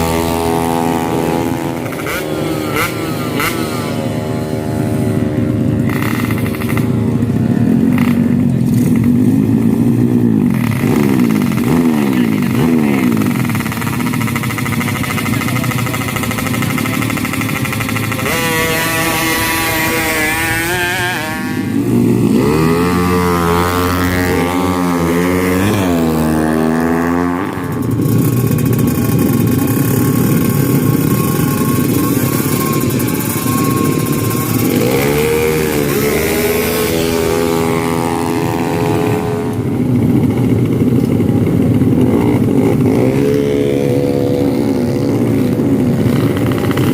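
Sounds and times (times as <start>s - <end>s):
motorcycle engines revving hard: 0.0s - 46.9s.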